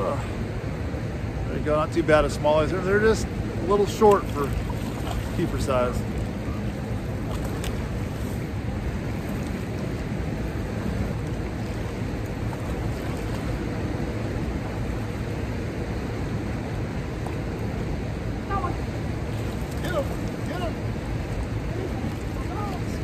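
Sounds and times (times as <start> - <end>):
churning water rushing: 0.0 - 23.0.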